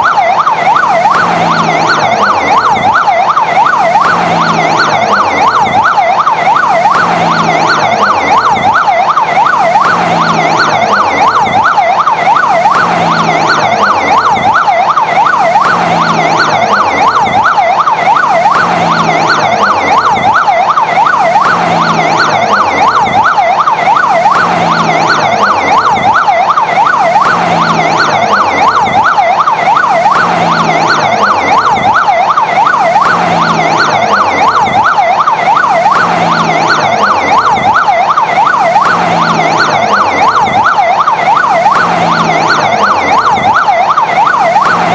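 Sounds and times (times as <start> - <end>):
fire engine siren yelping: 0.0 - 44.9.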